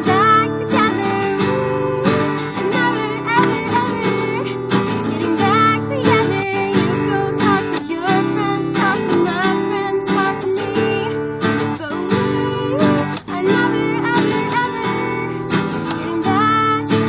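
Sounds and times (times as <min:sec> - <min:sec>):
acoustic guitar strumming: 0:00.0 - 0:17.0
woman singing: 0:00.0 - 0:17.0.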